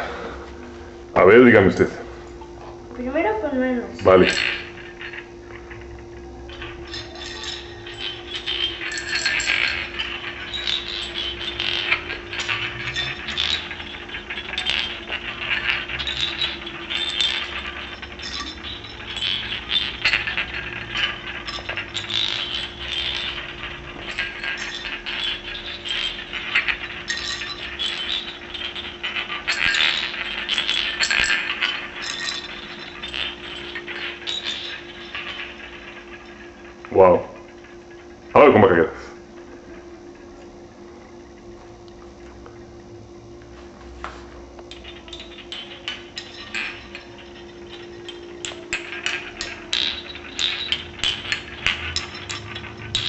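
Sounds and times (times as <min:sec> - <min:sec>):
seashells clicking on tiled floor: 0:04.0 - 0:38.1, 0:44.6 - 0:53.0.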